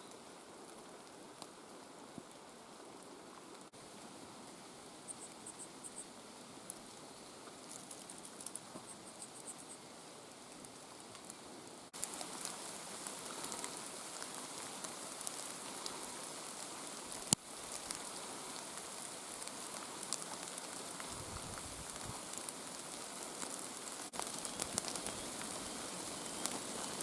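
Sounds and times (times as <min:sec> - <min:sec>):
rain on foliage: 0:00.0 - 0:27.0.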